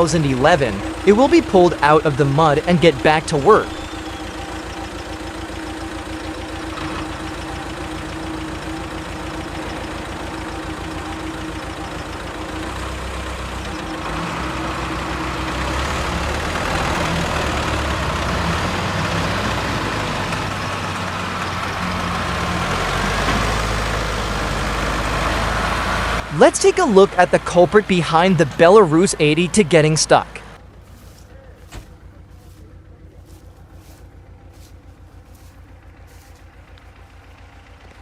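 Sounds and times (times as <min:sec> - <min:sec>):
diesel tractor engines under load: 0:00.0 - 0:38.0.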